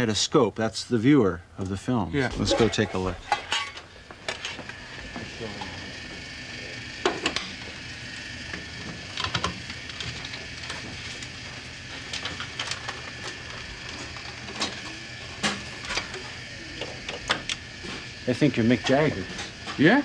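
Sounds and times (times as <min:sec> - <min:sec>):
faint high whine: 0:00.0 - 0:20.0.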